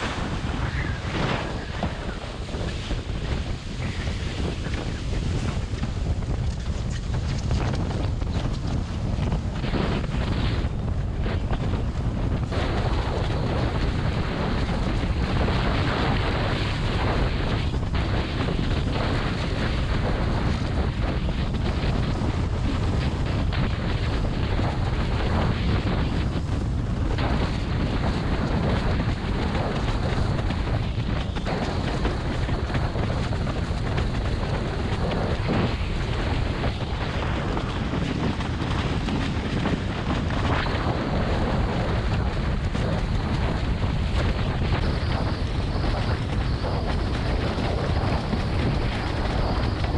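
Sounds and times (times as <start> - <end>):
water rushing under board: 0.0 - 49.9
wind buffeting microphone: 0.0 - 49.9.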